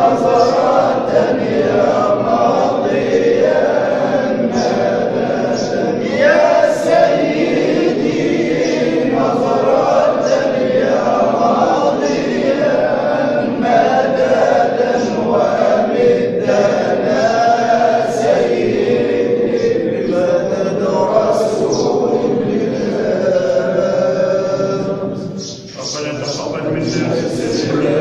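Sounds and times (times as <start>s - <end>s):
group chanting in unison: 0.0s - 28.0s.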